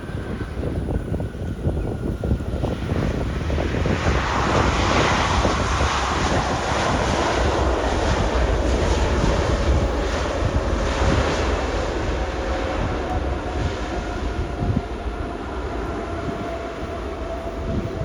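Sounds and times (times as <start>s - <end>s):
jet engine roar: 0.0s - 18.0s
wind rumbling on microphone: 0.0s - 18.0s.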